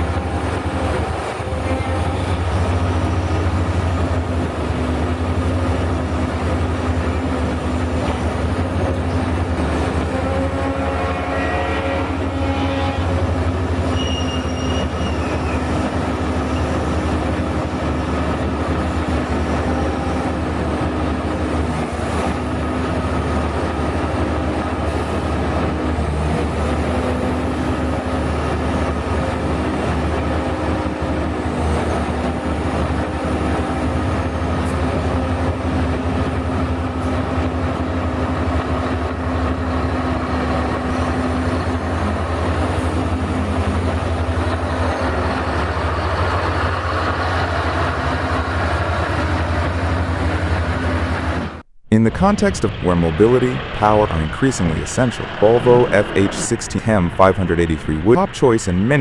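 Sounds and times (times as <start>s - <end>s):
diesel machinery engine drone: 0.0s - 59.0s.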